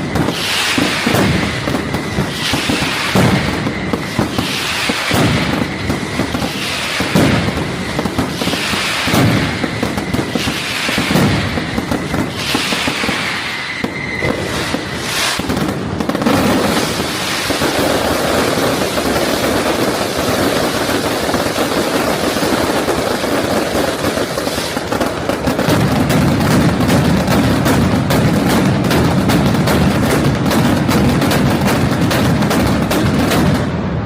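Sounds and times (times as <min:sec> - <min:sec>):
deep firework booms: 0:00.0 - 0:34.0
fireworks crackling and bangs: 0:00.0 - 0:34.0
whistling rockets: 0:00.0 - 0:34.0.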